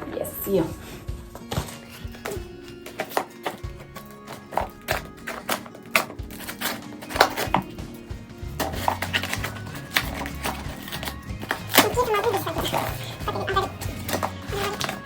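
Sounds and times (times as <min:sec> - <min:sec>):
background music with held tones: 0:00.0 - 0:15.0.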